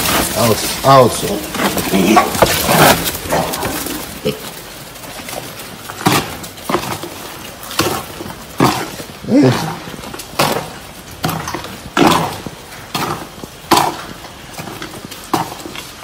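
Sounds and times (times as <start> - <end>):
piglets grunting and squealing: 0.0 - 16.0.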